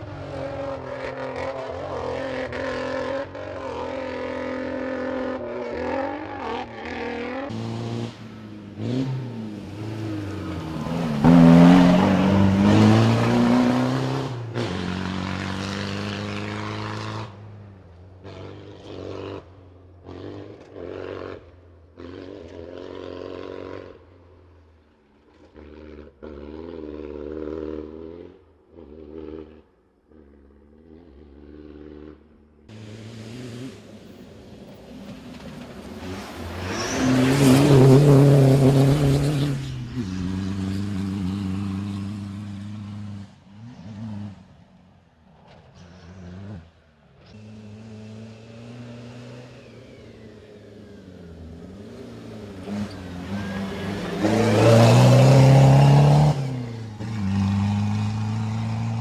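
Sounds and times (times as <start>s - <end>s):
rally car engines revving: 0.0s - 24.1s, 25.2s - 44.7s, 45.3s - 59.0s.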